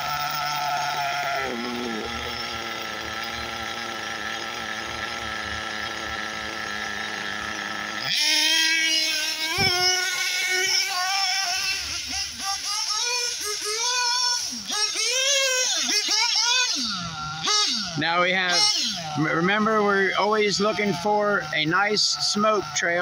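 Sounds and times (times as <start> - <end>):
nitro engine idling and revving: 0.0 - 23.0.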